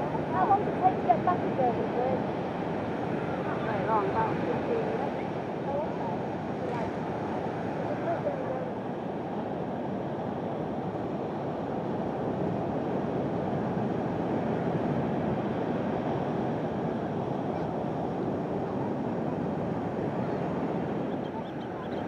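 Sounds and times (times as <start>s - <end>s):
surf on rocky shore: 0.0s - 22.0s
wind: 0.0s - 22.0s.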